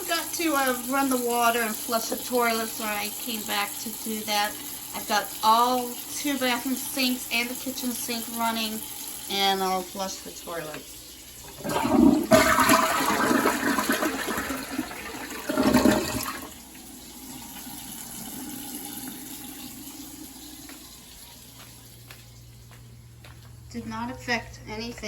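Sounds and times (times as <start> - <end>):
toilet tank refilling hiss: 0.0 - 22.0
toilet flushing: 0.0 - 22.5.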